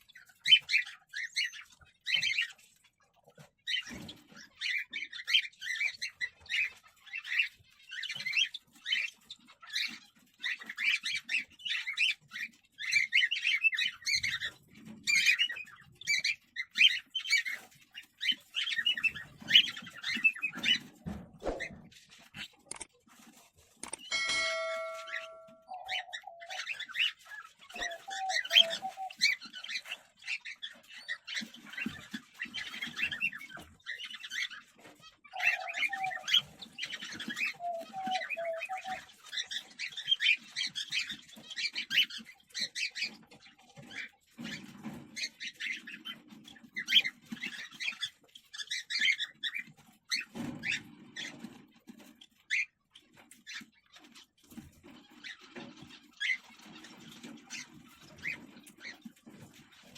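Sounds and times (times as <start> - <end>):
chicks chirping rapidly: 0.0 - 59.9.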